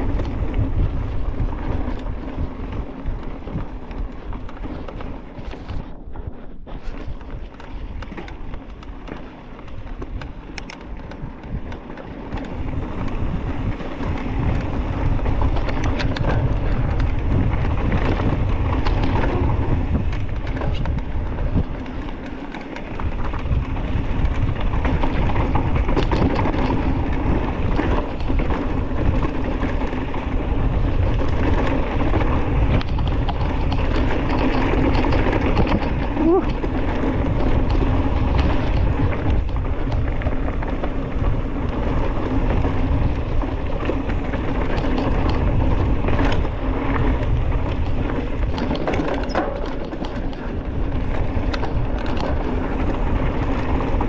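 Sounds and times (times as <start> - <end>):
bike clicks and rattles: 0.0 - 54.0
wind rushing over microphone: 0.0 - 54.0.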